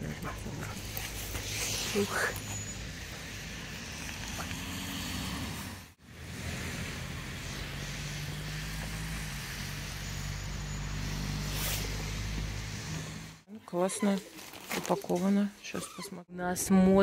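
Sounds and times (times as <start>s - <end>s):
road traffic noise: 0.0s - 15.9s.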